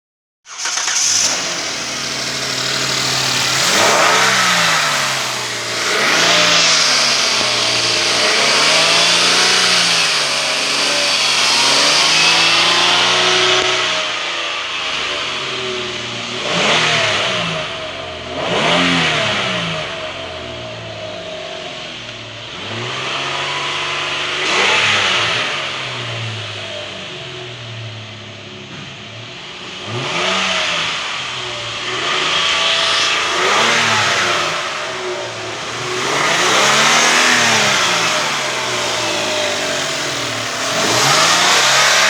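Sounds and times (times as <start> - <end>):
car engine revving: 0.5 - 42.0.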